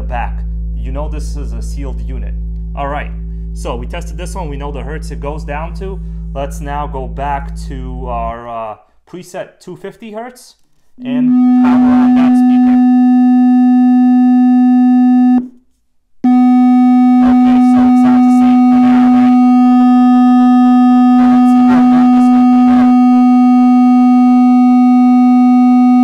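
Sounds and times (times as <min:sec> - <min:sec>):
sine test tone from speaker: 0:00.0 - 0:08.0, 0:11.0 - 0:15.5, 0:16.2 - 0:26.0.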